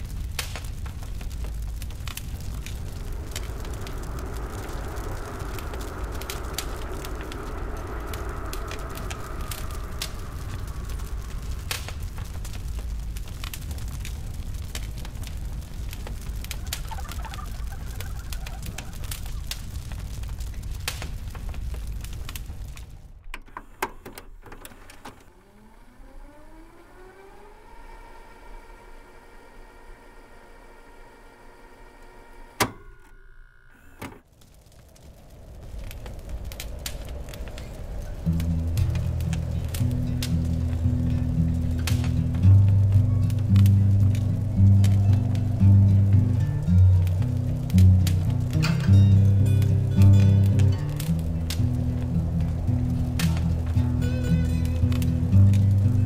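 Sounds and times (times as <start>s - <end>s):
low rumble: 0.0s - 23.4s, 32.8s - 56.0s
droning hum: 0.0s - 56.0s
fire crackling and popping: 0.0s - 56.0s.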